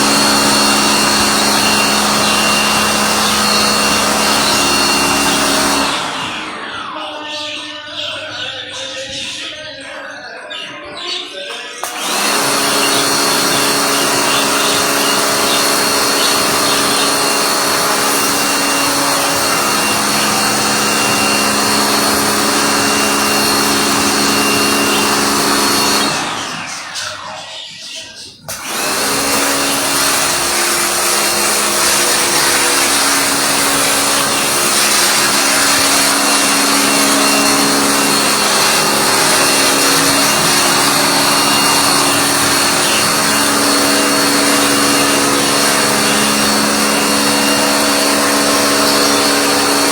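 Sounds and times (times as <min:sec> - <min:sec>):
electric motor appliance whining: 0:00.0 - 0:07.1, 0:11.8 - 0:27.4, 0:28.4 - 0:49.9.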